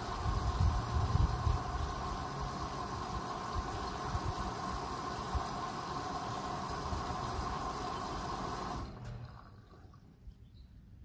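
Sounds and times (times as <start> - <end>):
washing machine motor hum: 0.0 - 9.9.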